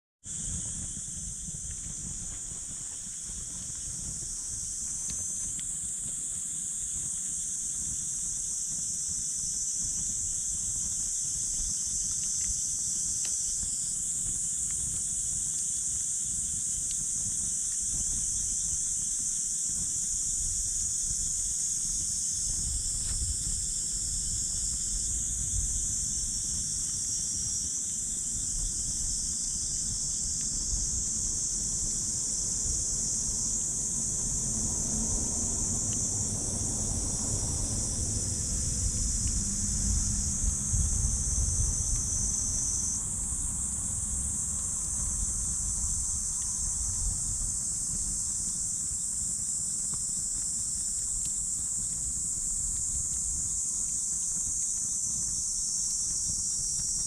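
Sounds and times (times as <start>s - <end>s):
insects chorus: 0.2s - 57.0s
campfire crackles: 0.3s - 36.2s, 37.7s - 57.0s
low rumble of wind: 0.3s - 57.0s.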